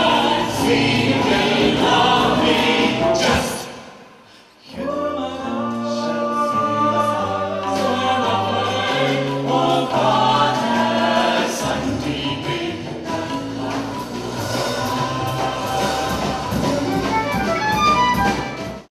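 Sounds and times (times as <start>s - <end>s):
vocal ensemble singing in harmony: 0.0s - 18.6s.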